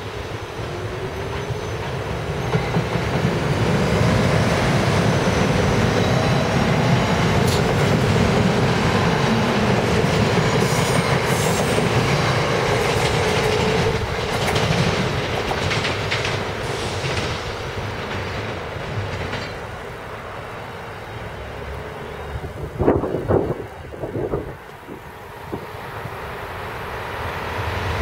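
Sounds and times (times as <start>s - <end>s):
train wheels rumbling over rails: 0.0s - 28.0s.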